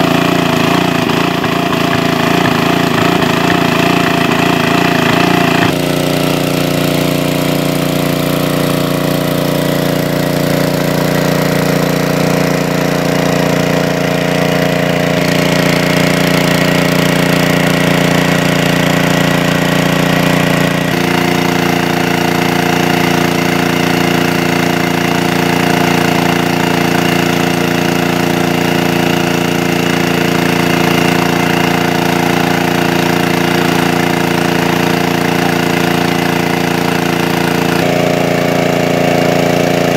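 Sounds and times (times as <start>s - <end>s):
water pump engine running: 0.0s - 39.9s.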